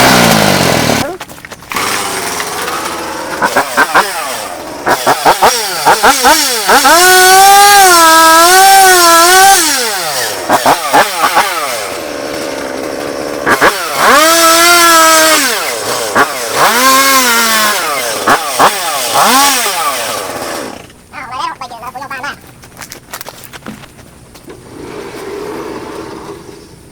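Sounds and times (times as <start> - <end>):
chainsaw engine revving: 0.0 - 21.0, 24.5 - 26.9.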